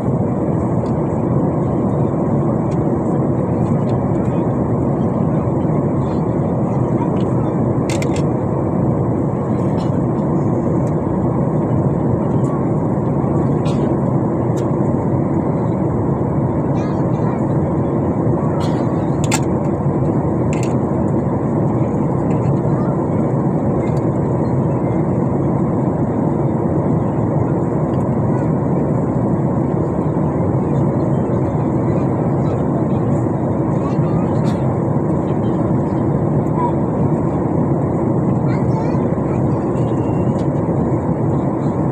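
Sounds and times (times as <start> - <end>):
airliner cabin roar: 0.0 - 41.9.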